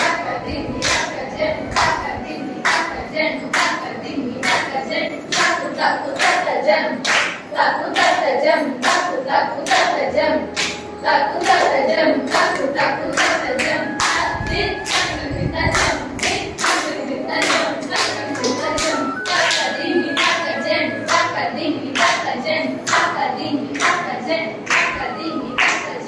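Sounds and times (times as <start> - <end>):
hands clapping rhythm: 0.8 - 26.0.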